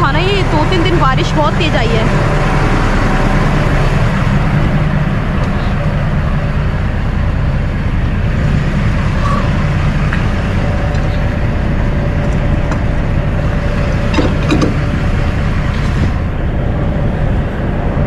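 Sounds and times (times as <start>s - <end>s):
diesel truck engine idling: 0.0s - 18.0s
faint constant hum: 0.0s - 18.0s.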